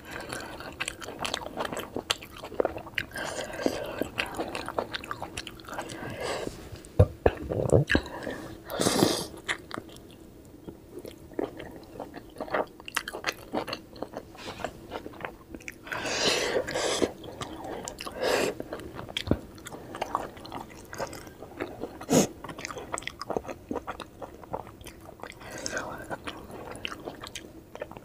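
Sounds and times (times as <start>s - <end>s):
chewing dumplings: 0.0s - 8.4s, 9.4s - 28.0s.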